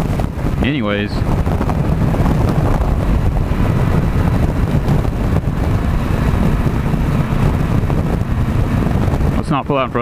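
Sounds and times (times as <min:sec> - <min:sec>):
motorcycle engine: 0:00.0 - 0:10.0
road noise: 0:00.0 - 0:10.0
wind buffeting microphone: 0:00.0 - 0:10.0.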